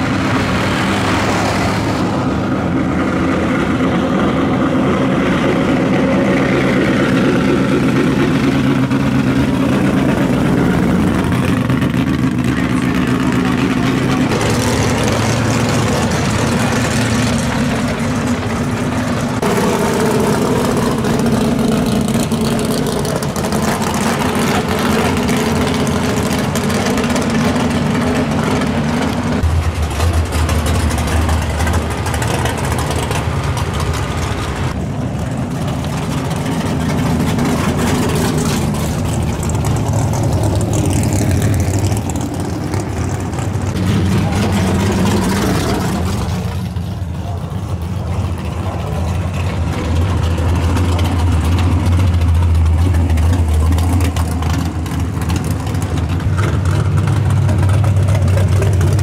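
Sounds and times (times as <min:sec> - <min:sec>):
big vee eight engines idling: 0:00.0 - 0:59.0.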